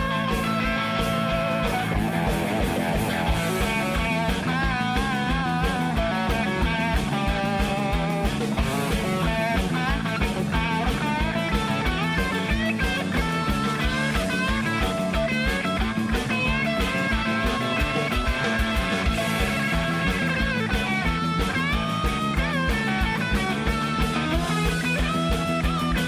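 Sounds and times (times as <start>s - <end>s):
drum beat: 0.0s - 26.0s
lead guitar bending notes: 0.0s - 26.0s.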